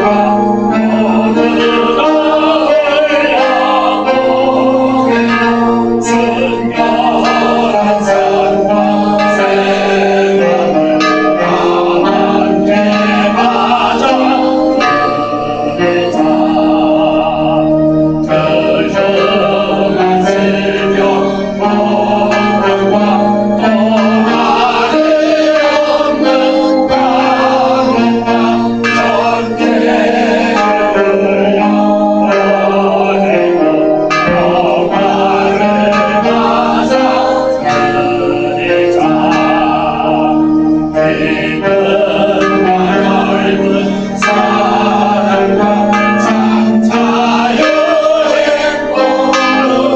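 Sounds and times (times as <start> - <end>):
sustained hymn chords: 0.0 - 49.9
voices singing: 0.0 - 49.9.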